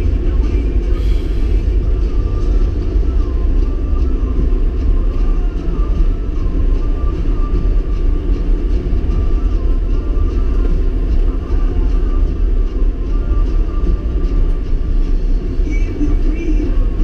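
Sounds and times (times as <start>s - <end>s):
thin wavering whine: 0.0s - 17.0s.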